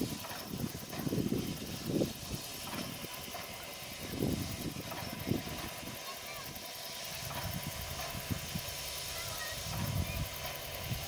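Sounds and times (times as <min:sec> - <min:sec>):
steam locomotive puffing: 0:00.0 - 0:11.0.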